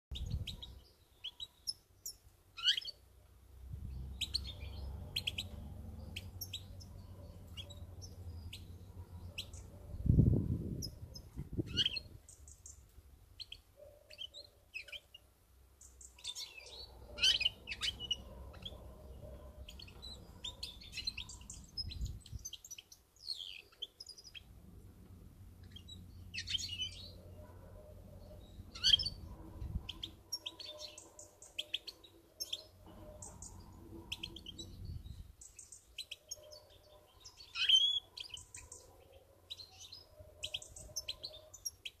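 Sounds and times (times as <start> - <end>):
finch twittering and chirping: 0.1 - 3.0, 3.8 - 15.2, 15.8 - 24.5, 25.6 - 27.4, 28.1 - 42.0.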